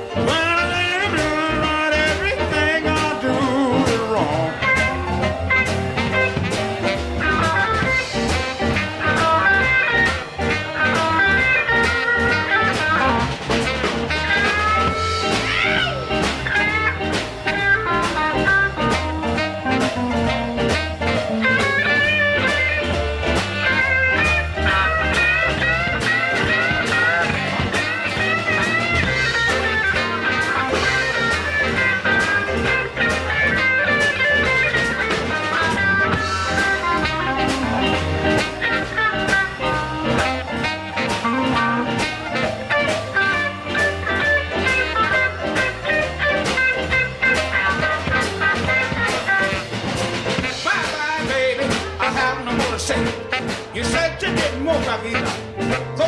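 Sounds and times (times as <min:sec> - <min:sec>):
bass: 0:00.0 - 0:56.0
drums: 0:00.0 - 0:56.0
electric guitar lead: 0:00.0 - 0:56.0
piano: 0:00.0 - 0:56.0.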